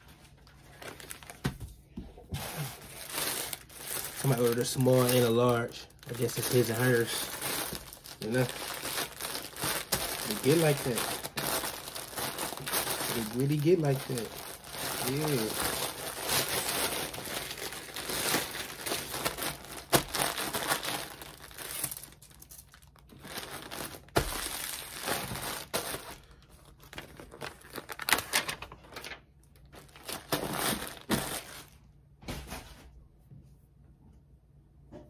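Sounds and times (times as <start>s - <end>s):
plastic bag crinkling: 0.1s - 1.4s, 2.4s - 31.8s.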